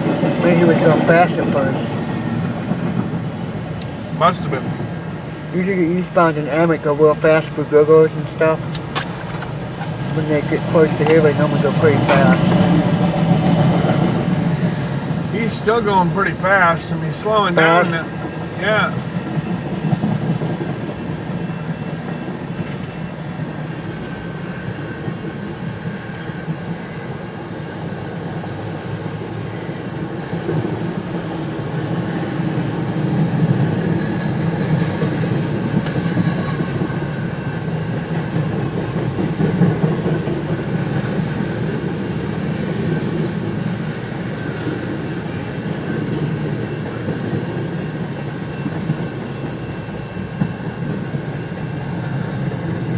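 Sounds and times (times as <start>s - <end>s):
freight train wheels clacking: 0.0s - 52.9s.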